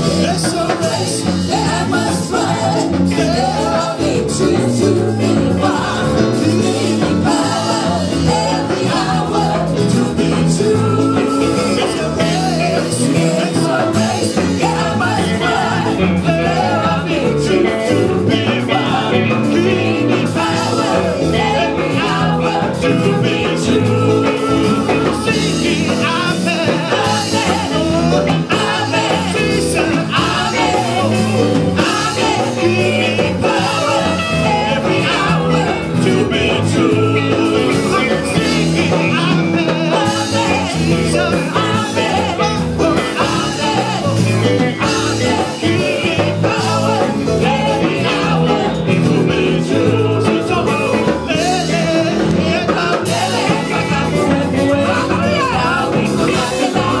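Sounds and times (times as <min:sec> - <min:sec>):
electronic keyboard: 0:00.0 - 0:57.0
women singing: 0:00.0 - 0:57.0.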